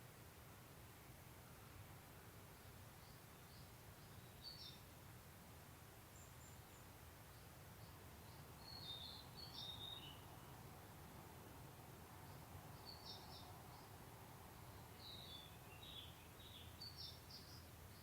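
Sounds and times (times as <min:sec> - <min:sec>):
faint birds chirping: 0:00.8 - 0:05.1, 0:06.0 - 0:18.0.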